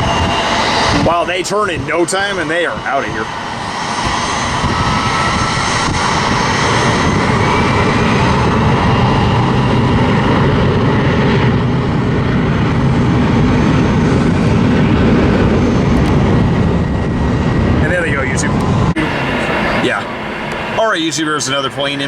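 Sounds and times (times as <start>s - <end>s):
jet engines whining: 0.0s - 22.0s.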